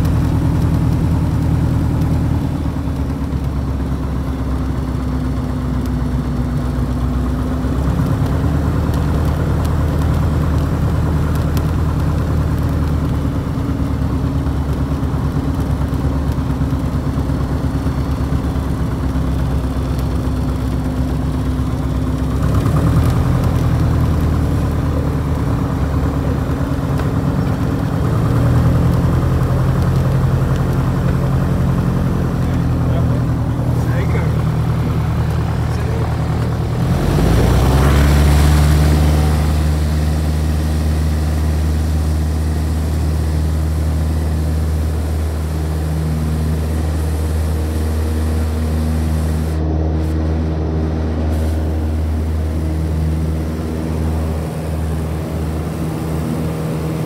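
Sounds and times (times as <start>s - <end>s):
light aircraft engine and propeller: 0.0s - 57.0s.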